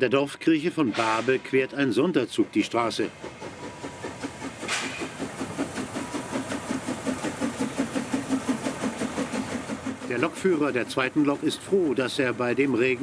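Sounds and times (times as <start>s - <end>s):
steam locomotive puffing: 0.7s - 13.0s
steam hissing: 0.8s - 13.0s.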